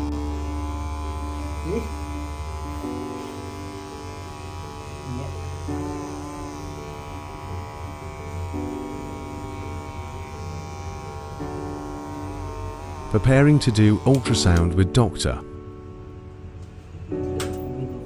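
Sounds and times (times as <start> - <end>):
electric pet clipper buzzing: 0.0 - 14.8.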